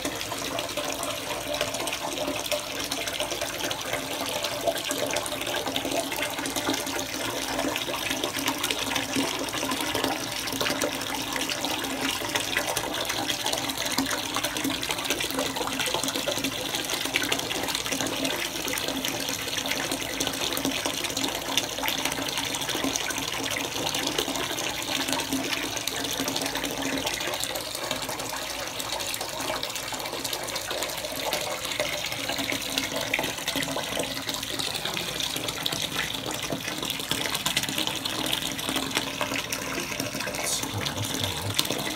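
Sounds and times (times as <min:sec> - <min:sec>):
water running into a bathtub: 0:00.0 - 0:41.9.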